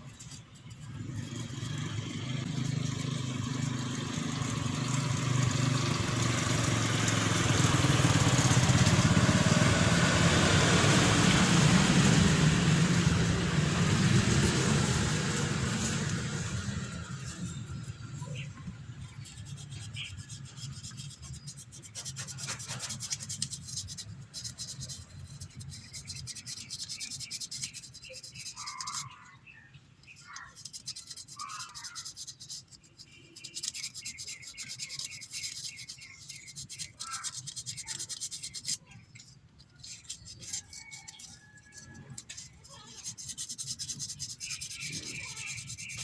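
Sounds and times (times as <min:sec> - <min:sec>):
sandpaper rubbing on metal: 0:00.0 - 0:03.2, 0:10.6 - 0:29.3, 0:30.0 - 0:46.0.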